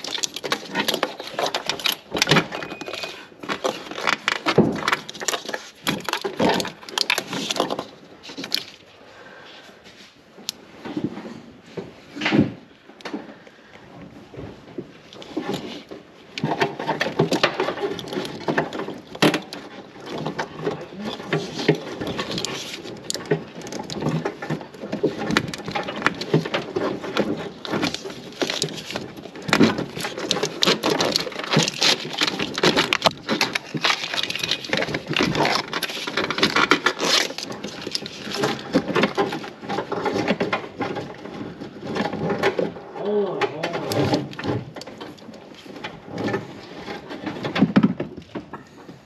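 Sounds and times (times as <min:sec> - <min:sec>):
plastic loom scraping and rustling: 0:00.0 - 0:09.0, 0:09.7 - 0:49.0.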